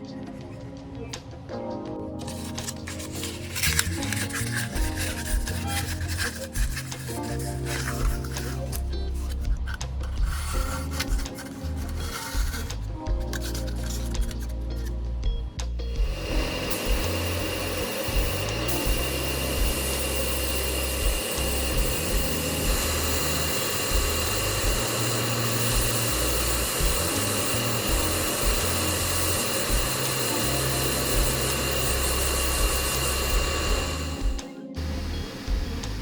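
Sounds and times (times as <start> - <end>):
background music with steady beat: 0.0 - 36.0
paint sprayer hissing and whining: 2.3 - 14.9, 15.9 - 36.0.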